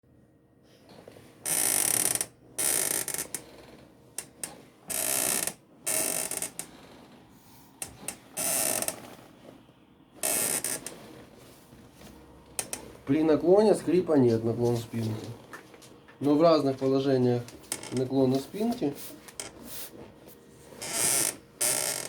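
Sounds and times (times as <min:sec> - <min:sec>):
chair creaking: 0:00.8 - 0:16.0, 0:16.8 - 0:22.0.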